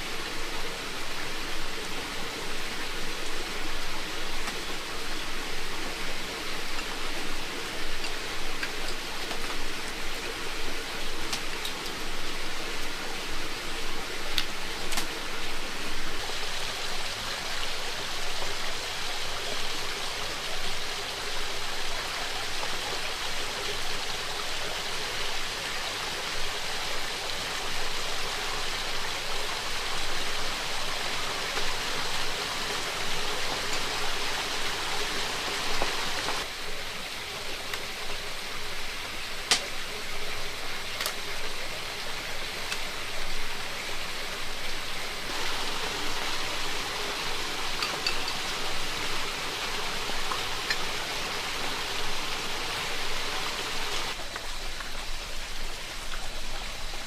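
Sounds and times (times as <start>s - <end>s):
heavy rain falling: 0.0s - 36.6s, 39.0s - 57.0s.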